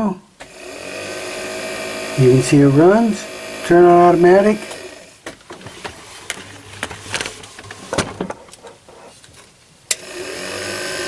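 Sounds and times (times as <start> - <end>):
bilge pump motor whirring: 0.4 - 8.2, 9.9 - 11.0.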